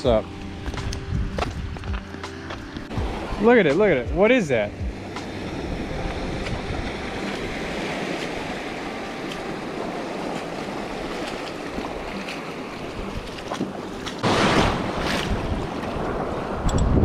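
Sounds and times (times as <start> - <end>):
surf washing over rocks: 2.9 - 17.0.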